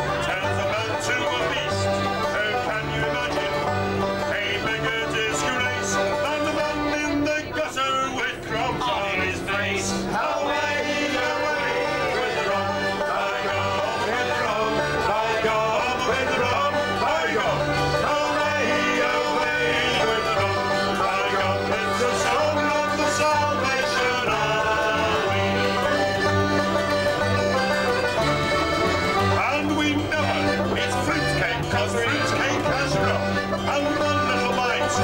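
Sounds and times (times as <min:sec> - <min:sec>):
folk band playing: 0:00.0 - 0:35.0.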